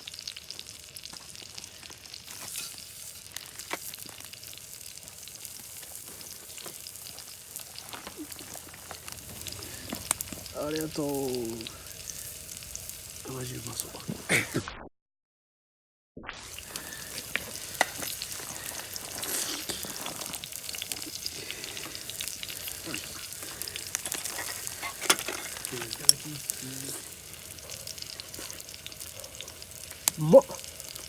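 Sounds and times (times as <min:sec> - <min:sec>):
oil sizzling in a skillet: 0:00.0 - 0:14.6, 0:16.4 - 0:31.0
crackling pops: 0:02.2 - 0:14.8, 0:16.2 - 0:31.0.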